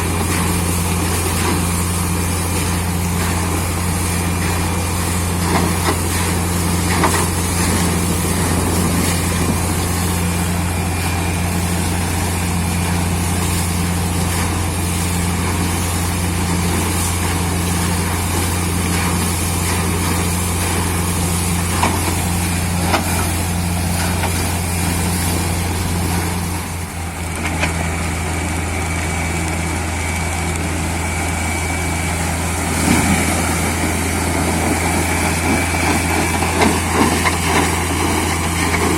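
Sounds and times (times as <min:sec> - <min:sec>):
drilling rig engine and compressor: 0:00.0 - 0:38.9.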